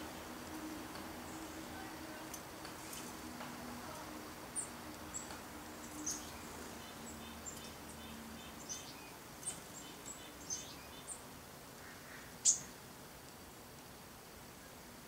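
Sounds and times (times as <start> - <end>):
songbirds chirping: 0.0 - 13.7.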